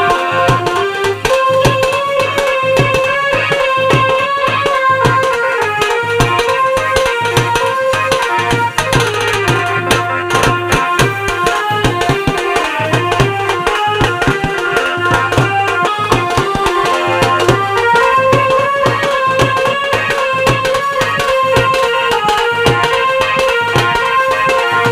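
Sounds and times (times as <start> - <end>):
repeating drum beat: 0.0 - 24.9
ringtone melody: 0.0 - 24.9.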